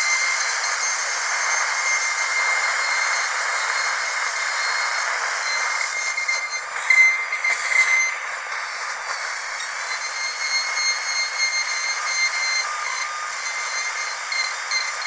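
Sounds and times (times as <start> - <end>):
dentist's drill whining: 0.0 - 15.0.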